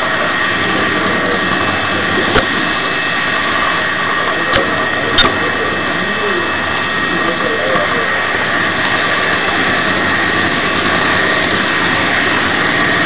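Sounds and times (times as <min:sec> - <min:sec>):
diesel engine sound from speaker: 0:00.0 - 0:13.0
model train whirring on track: 0:00.0 - 0:13.0.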